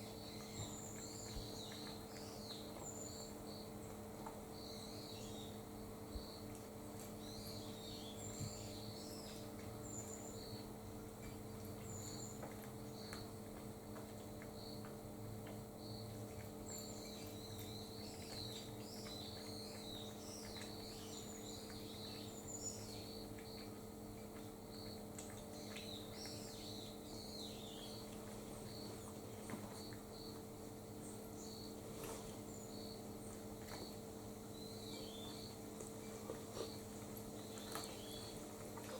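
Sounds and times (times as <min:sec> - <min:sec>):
low electrical hum: 0:00.0 - 0:38.9
small birds chirping: 0:00.0 - 0:38.9.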